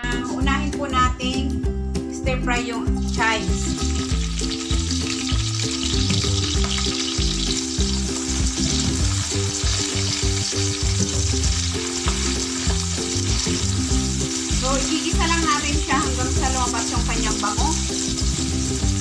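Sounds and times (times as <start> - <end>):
chives sizzling in oil: 2.8 - 19.0.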